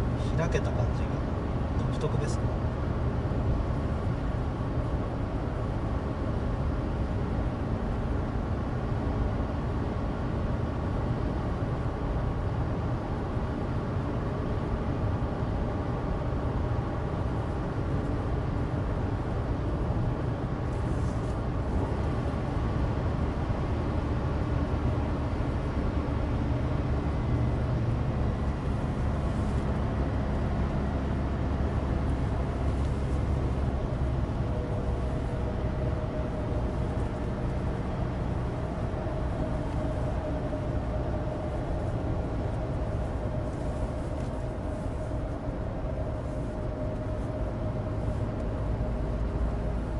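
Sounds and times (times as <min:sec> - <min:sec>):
car engine drone: 0:00.0 - 0:49.9
tyres rumbling on dry road: 0:00.0 - 0:49.9.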